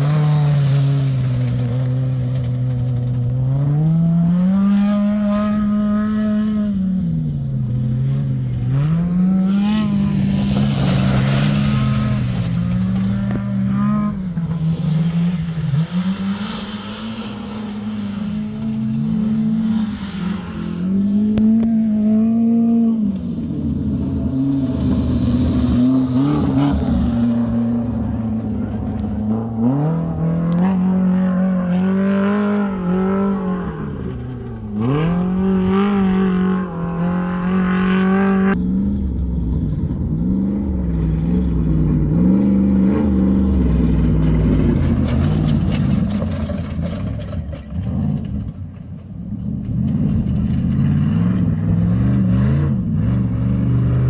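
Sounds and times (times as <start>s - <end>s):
off-road vehicle engines racing: 0.0s - 54.0s.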